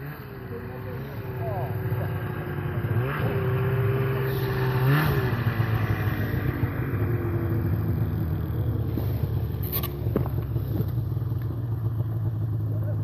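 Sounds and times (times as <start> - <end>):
snowmobile engine revving and idling: 0.0 - 13.0.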